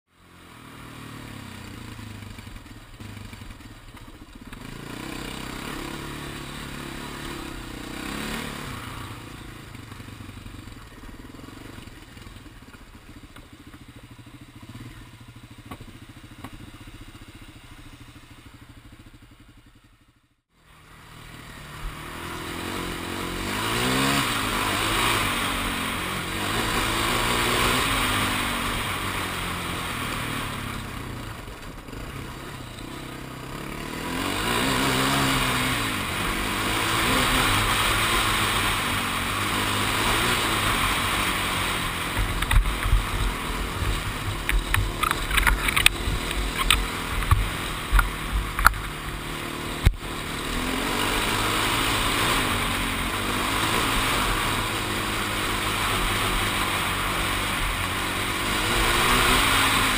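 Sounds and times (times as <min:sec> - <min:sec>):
atv engine revving: 0:00.2 - 0:59.9.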